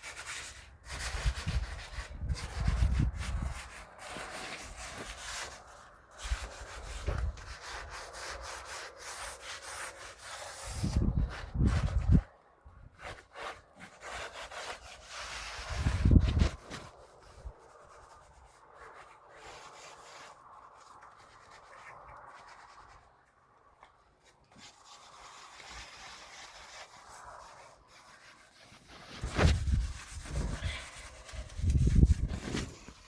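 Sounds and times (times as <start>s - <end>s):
faint rubbing and scraping: 0.0s - 33.0s.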